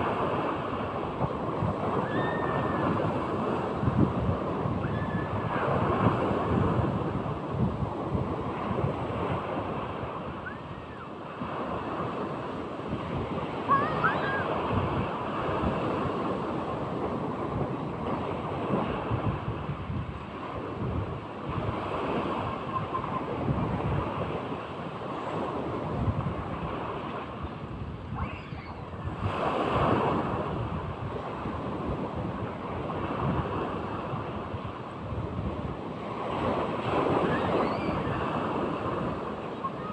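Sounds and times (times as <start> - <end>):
sea waves breaking: 0.0 - 39.9
wind buffeting microphone: 0.0 - 39.9.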